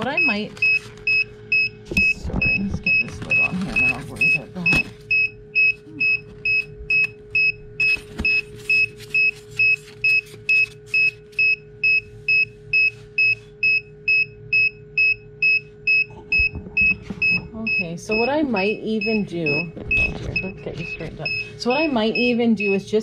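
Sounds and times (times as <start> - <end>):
electronic alarm beeping: 0.0 - 23.0
fan humming: 0.0 - 23.0.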